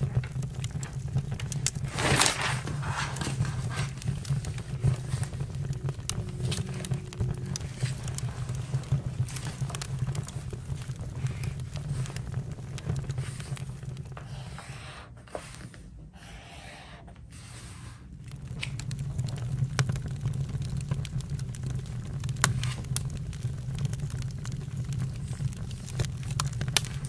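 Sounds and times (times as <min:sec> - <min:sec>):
campfire crackling and popping: 0:00.0 - 0:14.4, 0:18.1 - 0:27.0.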